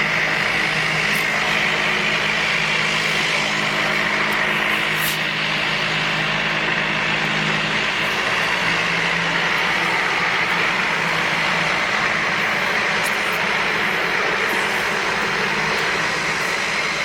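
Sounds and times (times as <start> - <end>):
aircraft engines rushing: 0.0 - 17.0.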